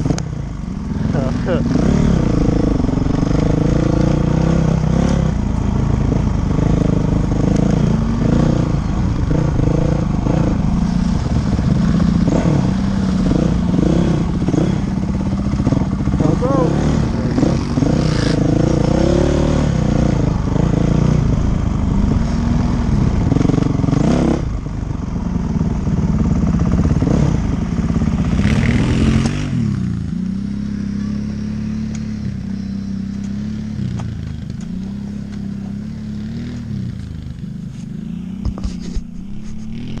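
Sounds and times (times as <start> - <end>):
dirt bike engine revving: 0.8 - 40.0.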